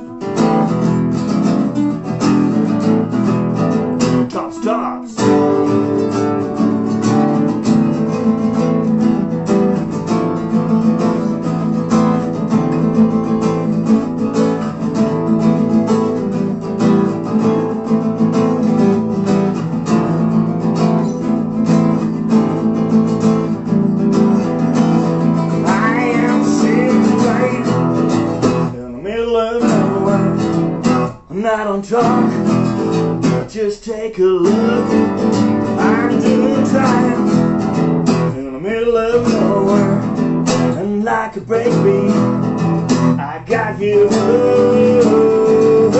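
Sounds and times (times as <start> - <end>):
acoustic guitars strumming: 0.0 - 45.9.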